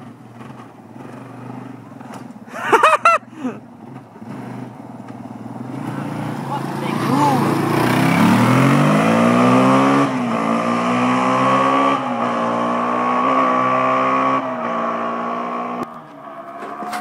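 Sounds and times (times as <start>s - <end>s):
atv engine accelerating: 0.0s - 17.0s.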